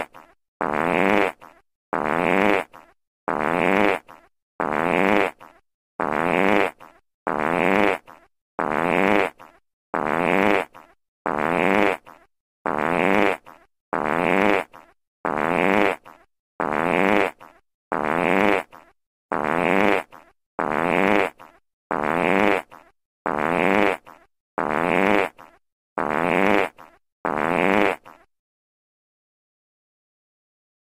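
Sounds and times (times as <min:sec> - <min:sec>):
fart sound effect: 0:00.0 - 0:28.3.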